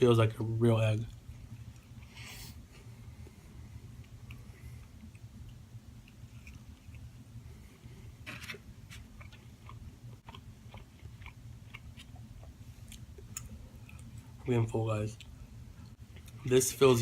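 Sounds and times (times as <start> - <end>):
steady low hum: 0.0 - 17.0
person chewing food: 1.4 - 14.5, 15.2 - 16.5.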